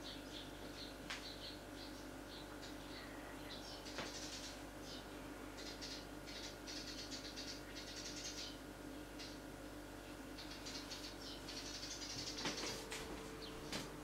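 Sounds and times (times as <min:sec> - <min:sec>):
sparrows chirping: 0:00.0 - 0:13.8
faint steady hum: 0:00.0 - 0:14.0.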